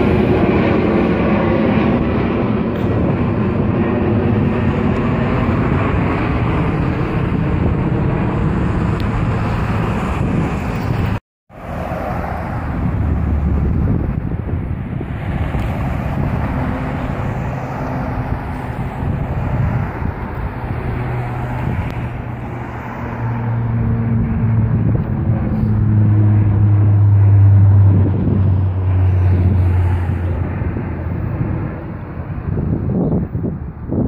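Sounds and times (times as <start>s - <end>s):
rushing noise: 0.0s - 33.6s
propeller plane drone: 0.0s - 34.0s.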